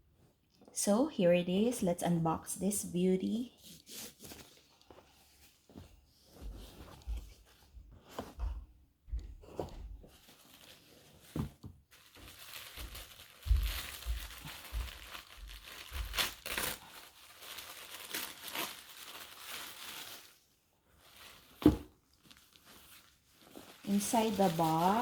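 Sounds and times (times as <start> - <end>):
paper rustling and crinkling: 3.6 - 8.4, 9.5 - 25.0.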